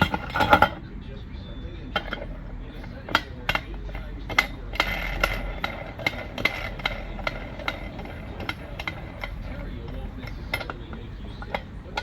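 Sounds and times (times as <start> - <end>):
metal tool clicking and clinking: 0.0 - 0.9, 1.9 - 12.0.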